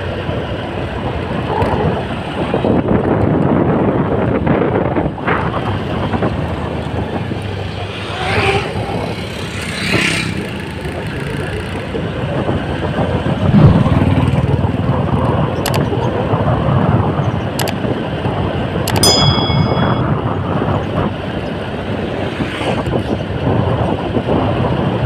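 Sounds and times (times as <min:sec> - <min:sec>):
vehicle rumble on road: 0:00.0 - 0:25.0
wind buffeting microphone: 0:00.0 - 0:25.0.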